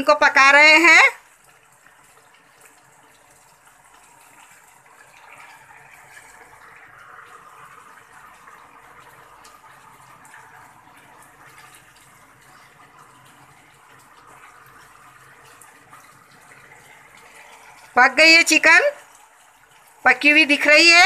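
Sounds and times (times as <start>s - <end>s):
chicken sizzling in sauce: 0.0s - 21.0s.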